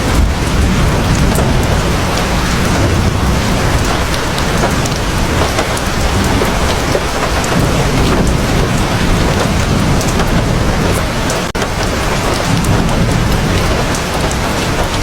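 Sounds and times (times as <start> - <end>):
heavy rain falling: 0.0 - 15.0
low thunder rumble: 0.0 - 15.0
raindrops hitting close by: 0.0 - 15.0.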